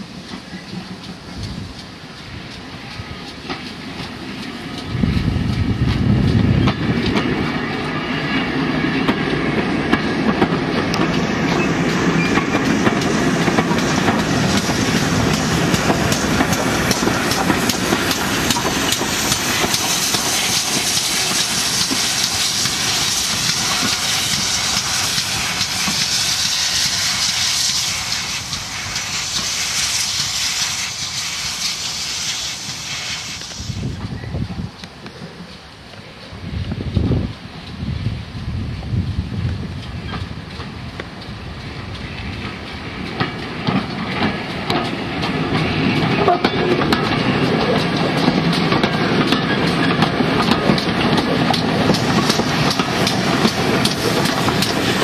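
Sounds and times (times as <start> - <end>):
train wheels clattering over rail joints: 0.0 - 33.6, 39.5 - 55.0.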